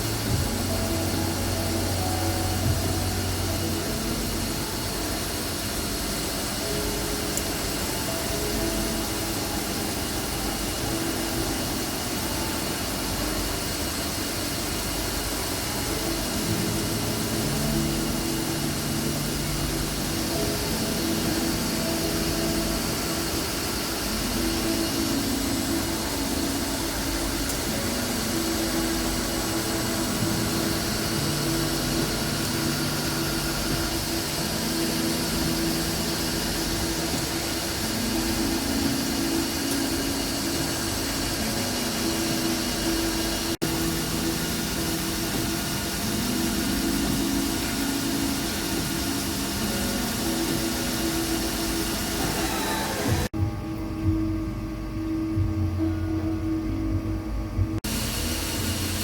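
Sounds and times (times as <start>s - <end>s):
machine tool motor hum: 0.0s - 59.0s.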